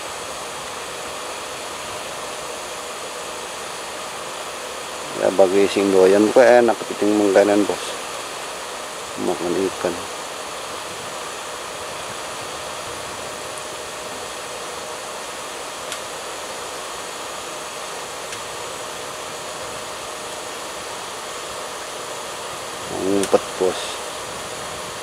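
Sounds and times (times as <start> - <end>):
faint hum: 0.0 - 25.0
steady hiss: 0.0 - 25.0.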